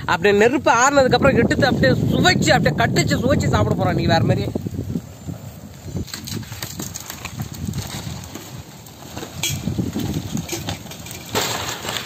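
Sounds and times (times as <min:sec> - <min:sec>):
fire crackling and popping: 0:01.1 - 0:12.0.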